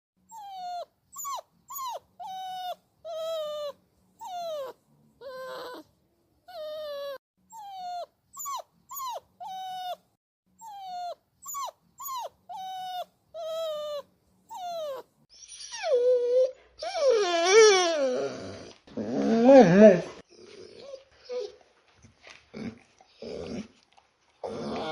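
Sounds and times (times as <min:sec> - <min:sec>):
puppy whining: 0:00.2 - 0:21.7, 0:24.4 - 0:24.9.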